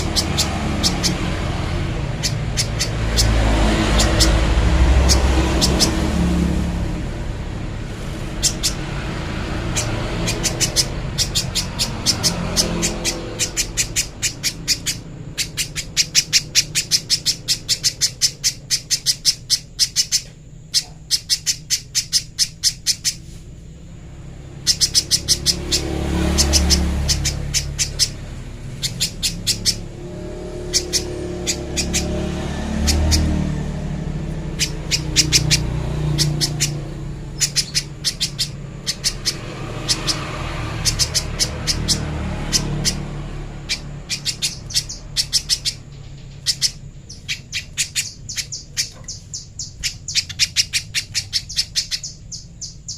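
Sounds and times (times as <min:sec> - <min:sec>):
bird calling sharp high notes: 0:08.2 - 0:23.3, 0:24.5 - 0:52.9.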